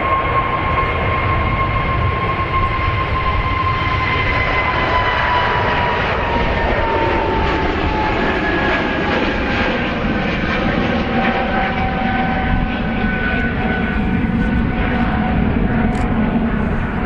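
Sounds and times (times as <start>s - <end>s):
airliner engines passing: 0.0s - 17.0s.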